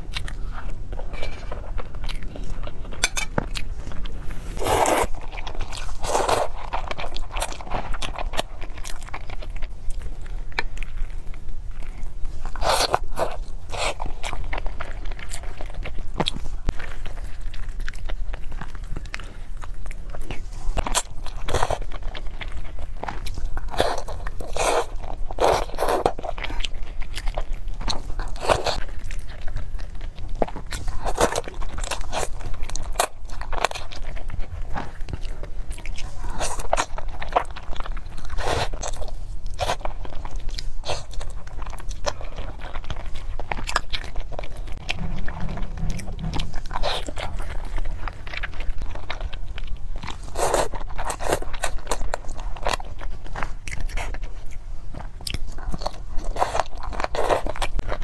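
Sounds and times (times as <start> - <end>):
person chewing food: 0.0 - 58.0
steady low hum: 0.0 - 58.0.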